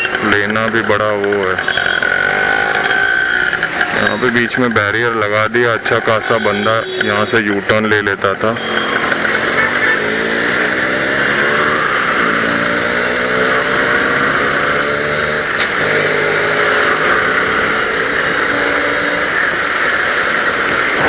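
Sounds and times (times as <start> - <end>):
motorcycle engine accelerating: 0.0 - 7.0, 7.9 - 21.0
wind and road noise: 0.0 - 21.0.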